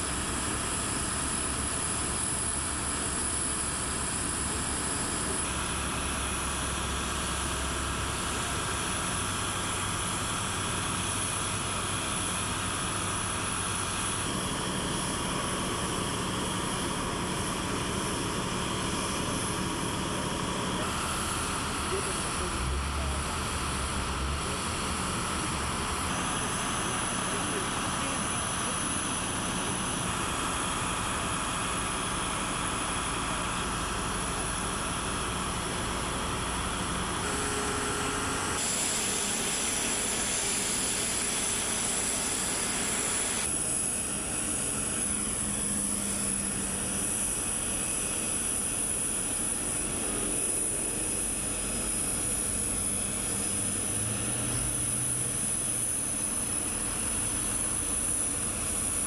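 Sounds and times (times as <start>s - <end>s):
engine and machinery noise: 0.0s - 59.0s
high-pitched whine: 0.0s - 59.0s.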